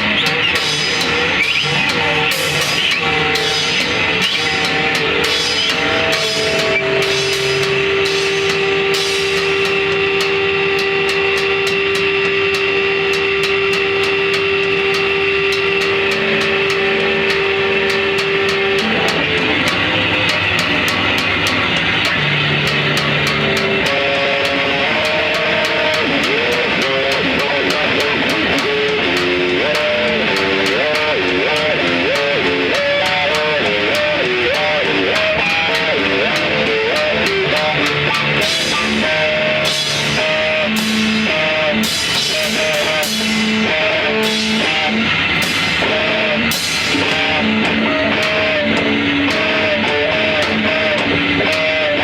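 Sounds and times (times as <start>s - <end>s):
distorted electric guitar: 0.0s - 52.0s
sharp drum hits: 0.0s - 52.0s.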